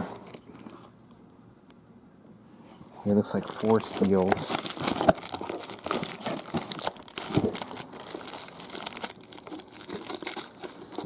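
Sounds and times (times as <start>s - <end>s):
crinkling: 0.0s - 1.0s, 2.7s - 11.0s.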